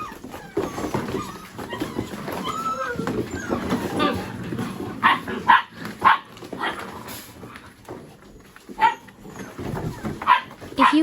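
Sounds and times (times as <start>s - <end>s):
puppies barking: 0.0s - 11.0s.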